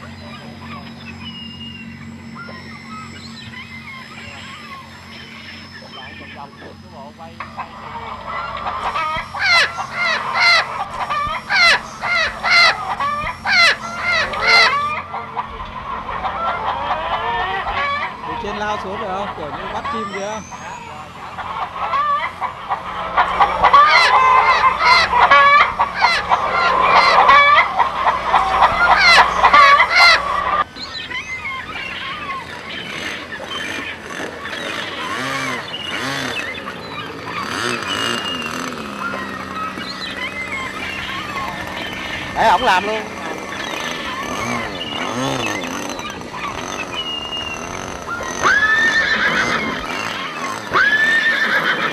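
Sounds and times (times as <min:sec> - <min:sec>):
bird harsh fowl-like calls: 0:00.0 - 0:51.9
chickens squawking and clucking: 0:00.0 - 0:51.9
steady low hum: 0:00.0 - 0:51.9.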